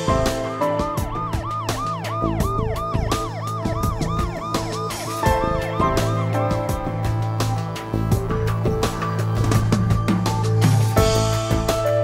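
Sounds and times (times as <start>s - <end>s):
wavering siren-like wail: 0.0s - 10.6s
music with steady beat: 0.0s - 12.0s.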